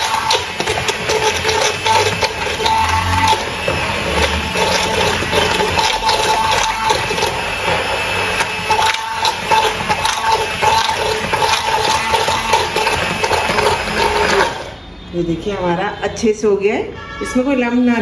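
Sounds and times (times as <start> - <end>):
immersion blender churning batter: 0.0 - 14.8.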